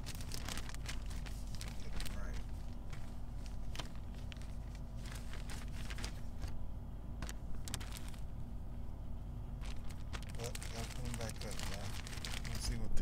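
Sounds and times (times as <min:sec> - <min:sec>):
cloth masks rustling: 0:00.0 - 0:08.5, 0:09.4 - 0:12.8
steady low rumble: 0:00.0 - 0:13.0.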